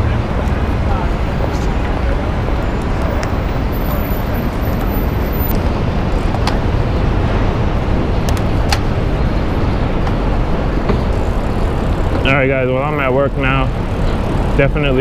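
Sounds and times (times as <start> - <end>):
road traffic: 0.0 - 15.0
wind noise: 0.0 - 15.0.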